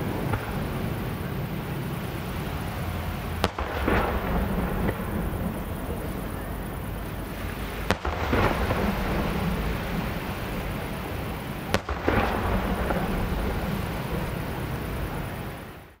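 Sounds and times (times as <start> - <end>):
fireworks crackling and rumble: 0.0 - 16.0.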